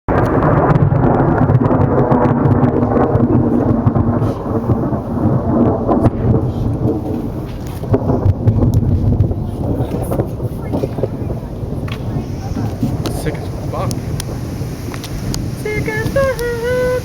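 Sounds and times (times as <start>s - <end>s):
rain falling: 0.1s - 17.0s
thunder rumbling: 0.1s - 17.0s.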